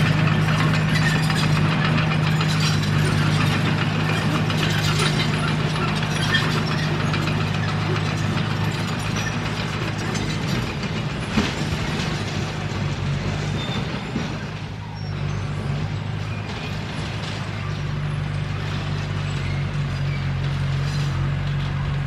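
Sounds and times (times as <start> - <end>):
diesel engine running: 0.0 - 22.0
steel crawler tracks clattering: 0.0 - 22.0.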